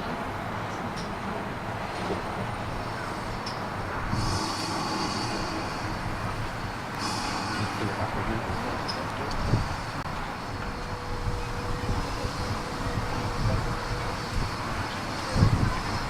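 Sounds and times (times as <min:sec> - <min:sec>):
steam train rumbling: 0:00.0 - 0:16.0
steam hissing: 0:01.8 - 0:16.0.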